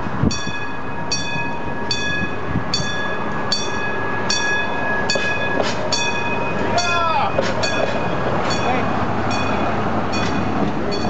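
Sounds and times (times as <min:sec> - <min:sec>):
railcar rolling past: 0:00.0 - 0:11.0.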